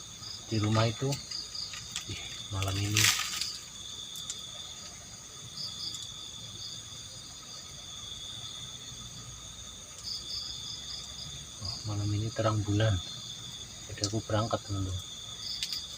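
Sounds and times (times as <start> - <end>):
crickets chirping: 0.0 - 15.9.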